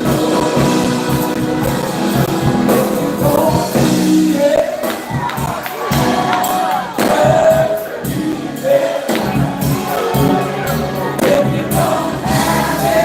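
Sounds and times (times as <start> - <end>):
band accompaniment: 0.0 - 13.0
group singing gospel: 0.0 - 13.0
steady percussion beat: 0.0 - 13.0.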